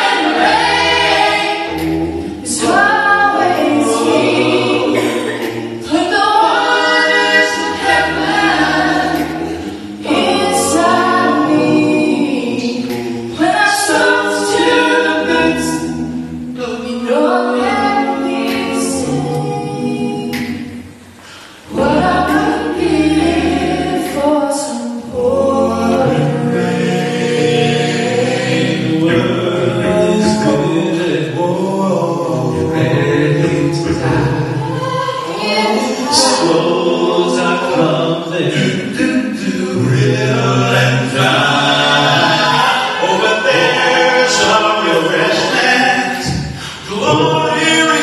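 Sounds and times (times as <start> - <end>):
vocal quartet singing a cappella: 0.0 - 48.0.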